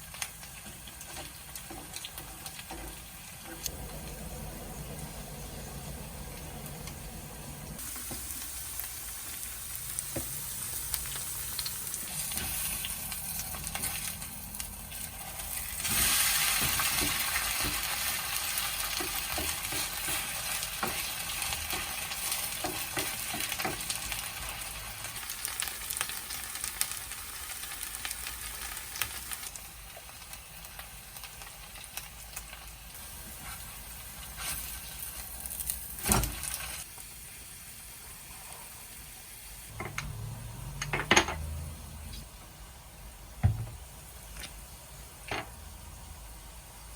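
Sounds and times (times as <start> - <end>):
potato pancake sizzling in oil: 0.0 - 42.2.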